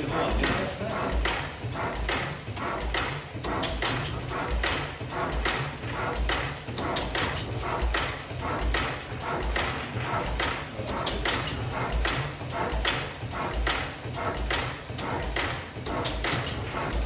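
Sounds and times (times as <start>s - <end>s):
valve gear clicking: 0.3s - 17.0s.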